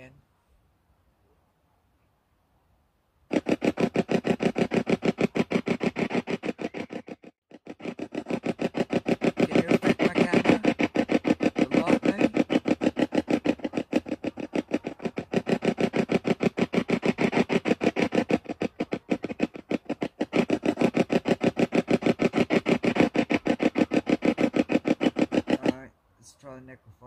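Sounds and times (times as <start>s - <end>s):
chopping radio noise: 3.3s - 7.1s, 7.7s - 25.8s.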